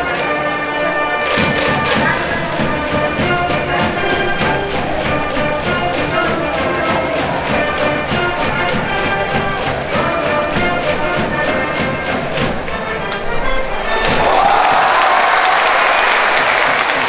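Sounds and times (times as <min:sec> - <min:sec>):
steady drum beat: 0:00.0 - 0:13.1, 0:14.0 - 0:17.0
brass band playing: 0:00.0 - 0:17.0.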